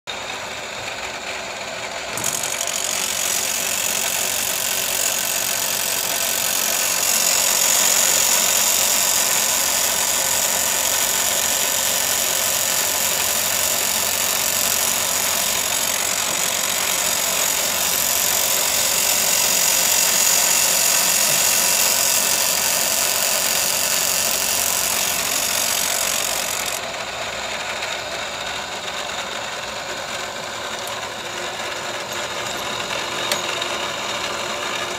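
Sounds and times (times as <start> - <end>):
grinder motor whine: 1.9 - 34.9
grinding wheel on chain: 2.1 - 34.9.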